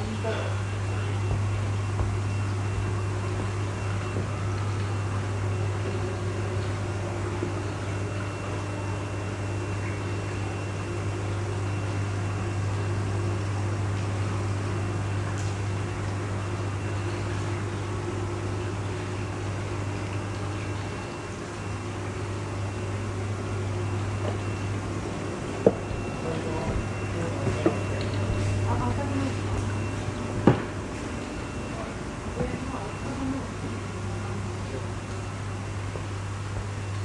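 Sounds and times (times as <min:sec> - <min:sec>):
aeration equipment humming: 0:00.0 - 0:37.0.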